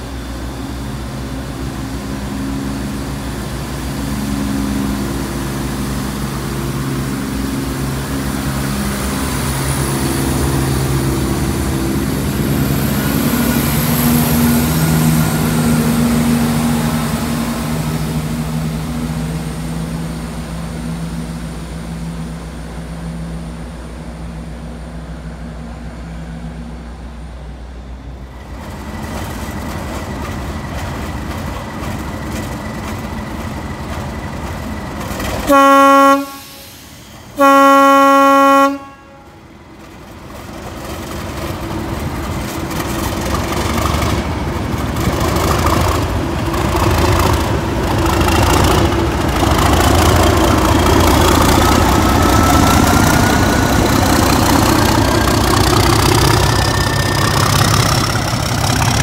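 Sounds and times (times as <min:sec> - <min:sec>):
diesel train passing: 0:00.0 - 0:59.0.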